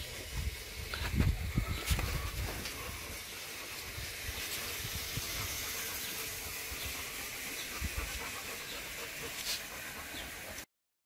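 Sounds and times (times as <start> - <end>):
high-pitched outdoor hiss: 0.0 - 10.6.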